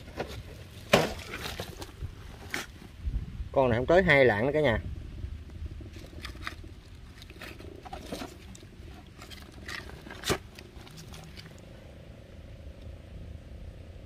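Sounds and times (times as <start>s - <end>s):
faint low rumble: 0.0s - 14.0s.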